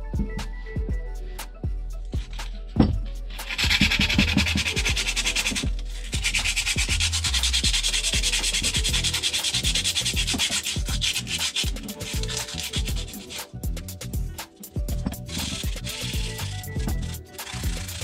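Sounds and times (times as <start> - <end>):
abrasive rubbing back and forth: 0.2 - 18.0.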